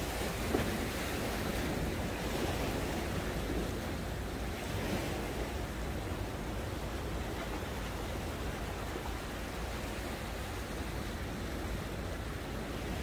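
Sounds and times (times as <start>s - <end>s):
sea surf against breakwater: 0.0s - 13.0s.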